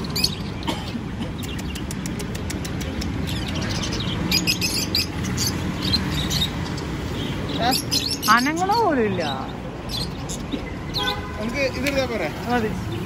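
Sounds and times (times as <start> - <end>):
cage birds chirping: 0.0 - 13.0.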